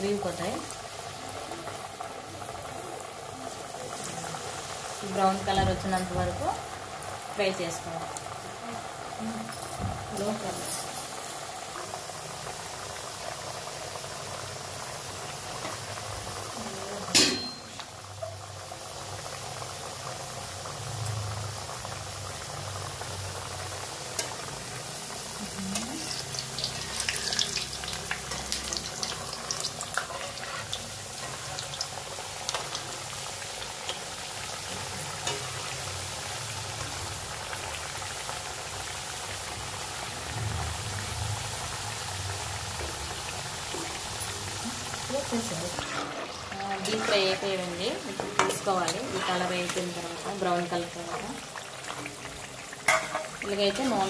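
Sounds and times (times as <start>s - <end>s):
dough sizzling in hot oil: 0.0s - 54.0s.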